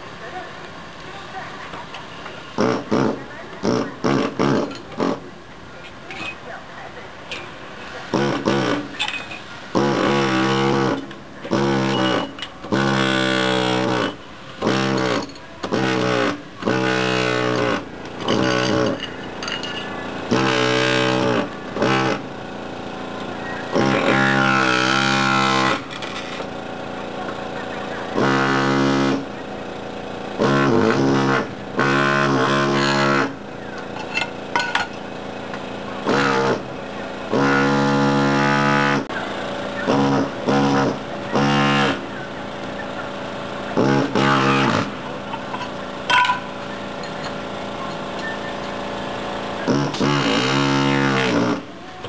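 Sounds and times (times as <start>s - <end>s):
pneumatic air hammer chipping tiles: 2.2s - 5.3s, 8.1s - 51.7s.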